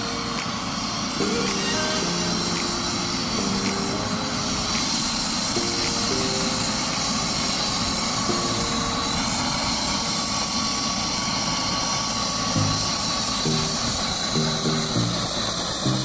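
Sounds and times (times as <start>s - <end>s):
faint music notes: 0.0s - 10.4s, 12.5s - 16.0s
helicopter rotor and engine: 0.0s - 16.0s.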